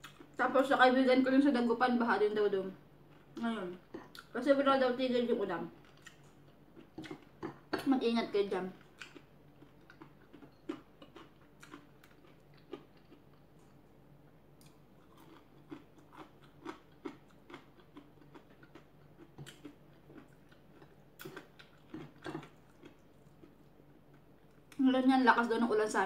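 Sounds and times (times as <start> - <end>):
faint chewing with small crunches: 0.0 - 0.8, 3.0 - 4.6, 5.4 - 25.1.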